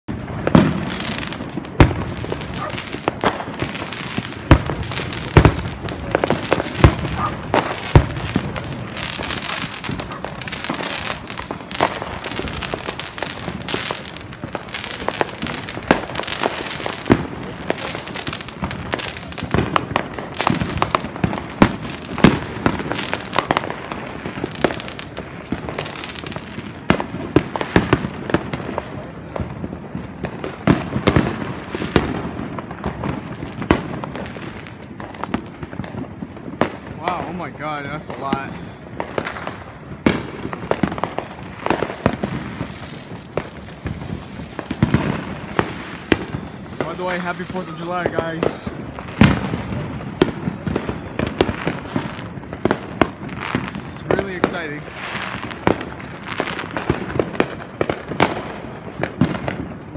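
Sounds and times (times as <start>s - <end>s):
fireworks popping and banging: 0.0s - 59.9s.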